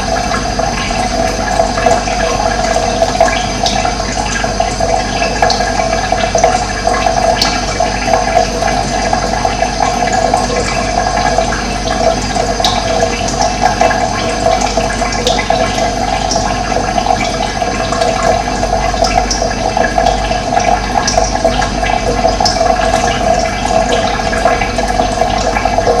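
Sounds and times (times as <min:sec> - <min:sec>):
running water rushing: 0:00.0 - 0:26.0.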